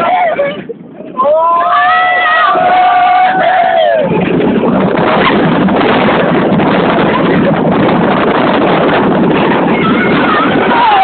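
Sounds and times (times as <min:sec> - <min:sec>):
roller coaster car rumbling: 0:00.0 - 0:11.0
wind rushing on microphone: 0:00.0 - 0:11.0.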